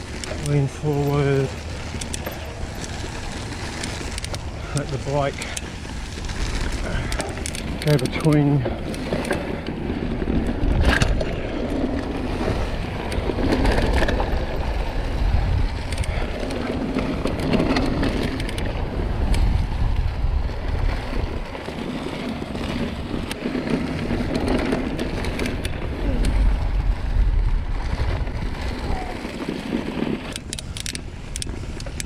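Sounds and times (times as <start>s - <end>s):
bike rattling and knocking: 0.0s - 32.0s
bike tyres rolling over dirt: 0.0s - 32.0s
wind rushing over microphone: 0.0s - 32.0s.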